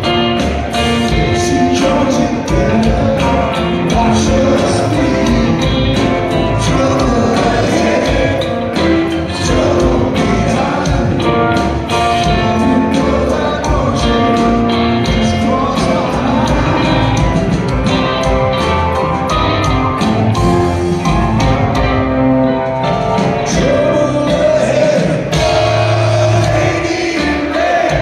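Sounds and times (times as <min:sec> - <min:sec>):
drum kit beat: 0:00.0 - 0:28.0
rock band playing live: 0:00.0 - 0:28.0
upright bass: 0:00.0 - 0:28.0.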